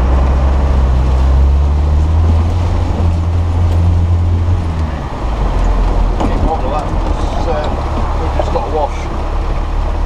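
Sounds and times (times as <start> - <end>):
car engine running under load: 0.0 - 10.0
water splashing against vehicle: 0.0 - 10.0.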